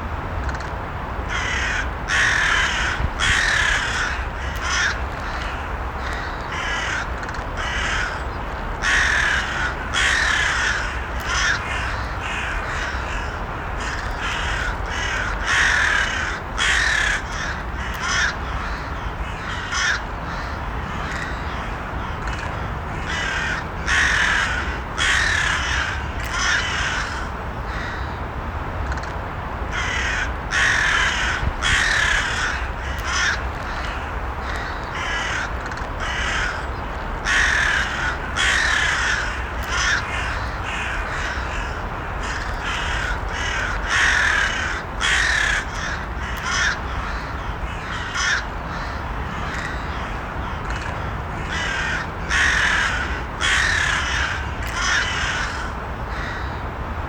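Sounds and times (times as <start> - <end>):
crows cawing: 1.3 - 28.2, 29.7 - 56.6.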